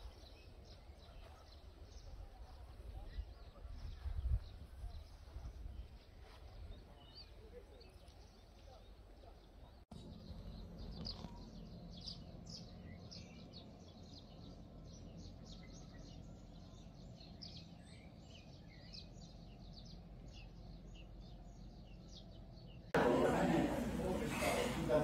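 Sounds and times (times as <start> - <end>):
birds chirping: 0.0 - 25.0
low background noise: 0.0 - 25.0.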